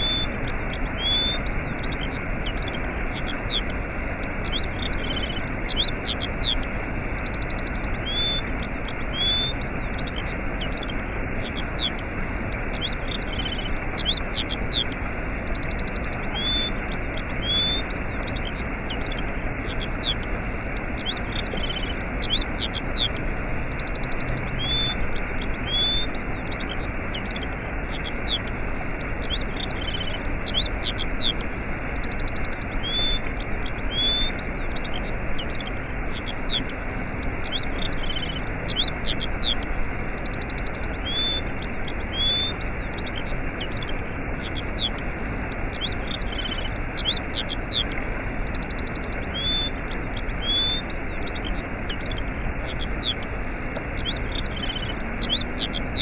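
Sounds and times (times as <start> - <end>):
small birds chirping: 0.0 - 56.0
waterfall rushing: 0.0 - 56.0.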